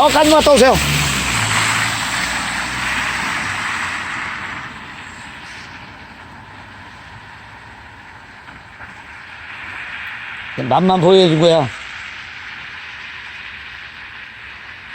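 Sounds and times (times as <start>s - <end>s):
car driving away: 0.0s - 14.9s.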